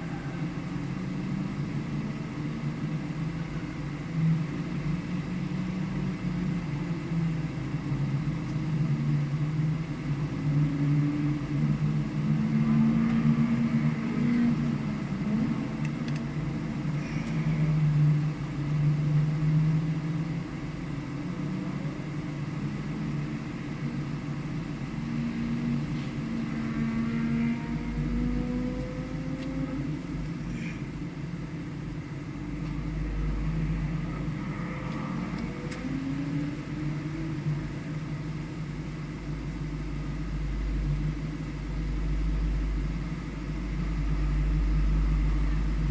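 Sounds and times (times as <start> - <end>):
low rumble: 0.0 - 45.9
vehicle engine revving: 4.4 - 31.1, 32.4 - 45.9.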